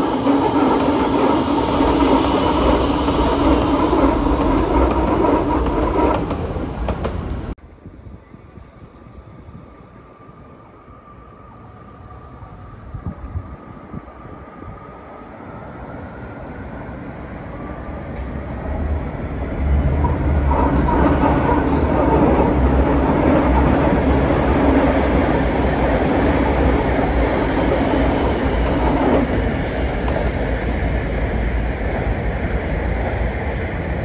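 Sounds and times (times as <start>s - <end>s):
trains rumbling past: 0.0s - 34.0s.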